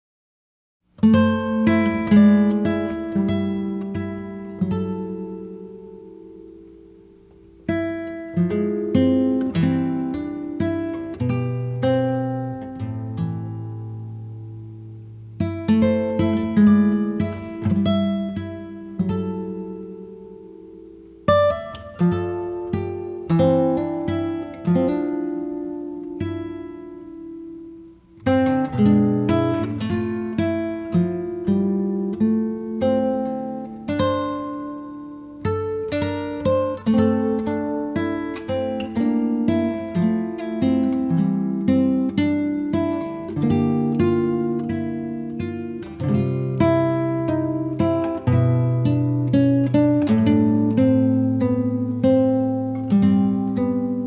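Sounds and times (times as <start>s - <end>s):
acoustic guitar picking: 1.0s - 54.0s.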